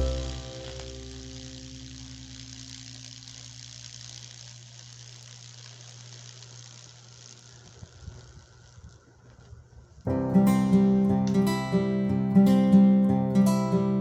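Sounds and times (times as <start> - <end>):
low electrical hum: 0.0 - 14.0
sizzling hiss of wood burning: 0.0 - 14.0.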